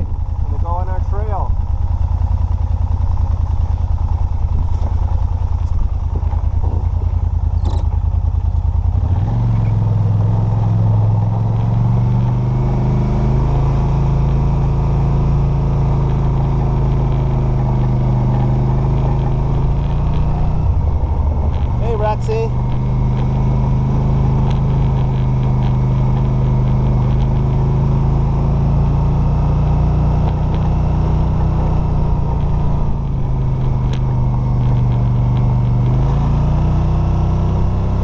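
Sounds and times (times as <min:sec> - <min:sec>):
quad bike engine: 0:00.0 - 0:38.0.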